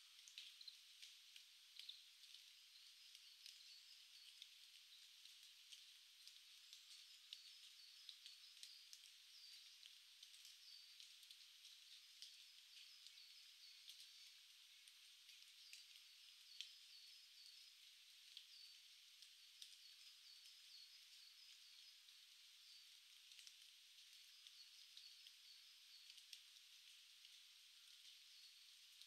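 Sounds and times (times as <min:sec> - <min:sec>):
faint small birds calling: 0:00.0 - 0:29.0
light ticks: 0:00.0 - 0:29.0
steady hiss: 0:00.0 - 0:29.0.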